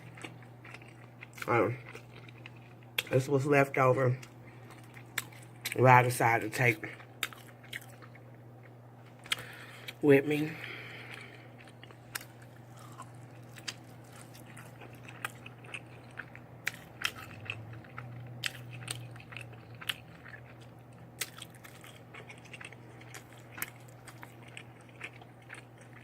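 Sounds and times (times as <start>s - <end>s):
person chewing food: 0.0s - 3.1s, 4.2s - 5.8s, 6.8s - 10.0s, 10.6s - 26.0s
steady low hum: 0.0s - 26.0s.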